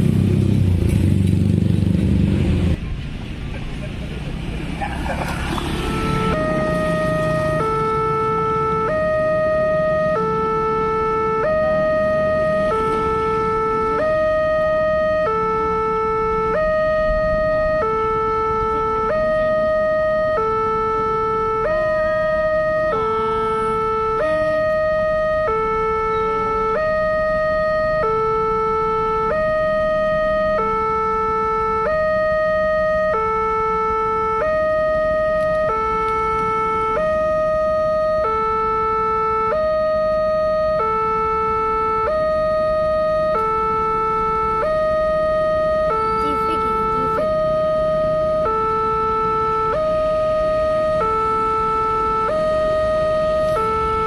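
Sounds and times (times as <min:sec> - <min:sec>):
two-tone level crossing alarm: 0:05.8 - 0:54.0.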